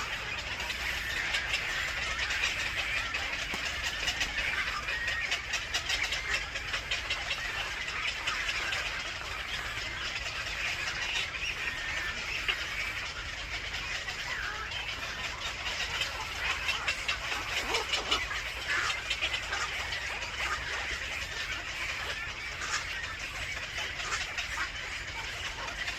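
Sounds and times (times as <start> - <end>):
birds chirping and chattering: 0.0 - 25.9.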